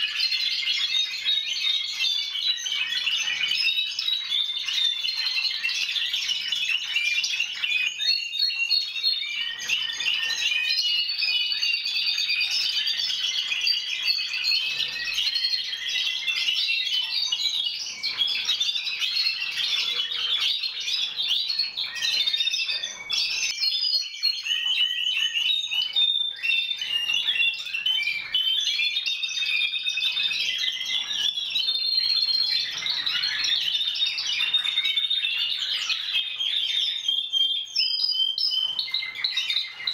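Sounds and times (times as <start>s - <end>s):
canaries trilling and chirping: 0.0s - 39.9s.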